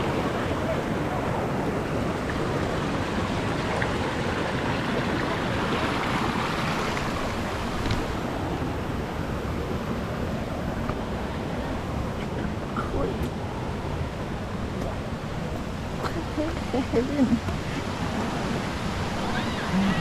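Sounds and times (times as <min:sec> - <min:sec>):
waterfall rushing over rock: 0:00.0 - 0:20.0.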